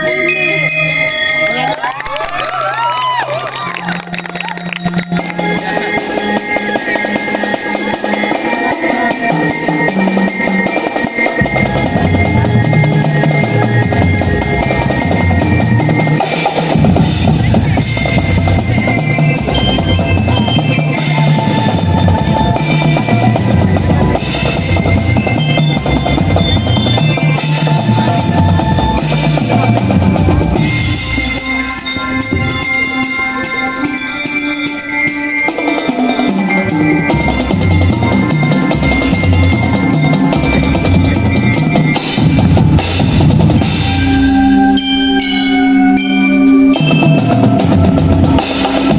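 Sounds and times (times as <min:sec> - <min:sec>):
glockenspiel melody: 0:00.0 - 0:48.9.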